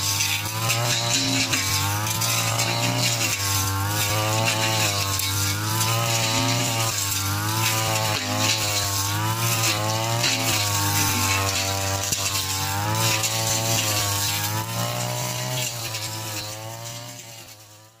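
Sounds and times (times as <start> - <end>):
brush cutter engine cutting grass: 0.0 - 18.0.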